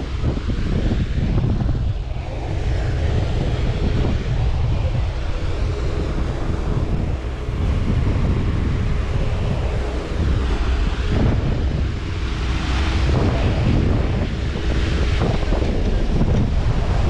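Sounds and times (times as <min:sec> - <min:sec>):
faint motor hum: 0:00.0 - 0:17.0
sea rushing: 0:00.0 - 0:17.0
wind buffeting microphone: 0:00.0 - 0:17.0.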